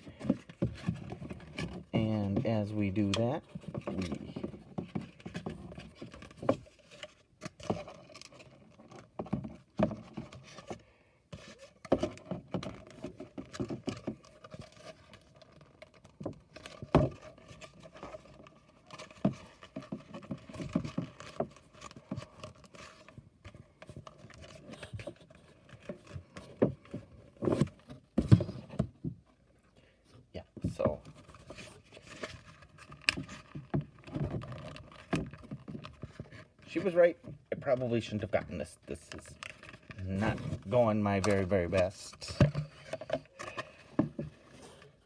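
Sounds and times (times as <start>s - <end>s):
cardboard being handled: 0.0s - 45.0s.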